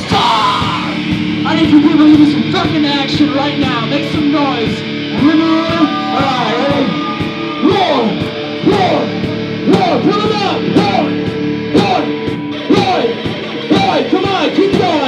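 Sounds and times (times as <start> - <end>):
drums hitting: 0.0 - 15.0
electric guitar bending notes: 0.0 - 15.0.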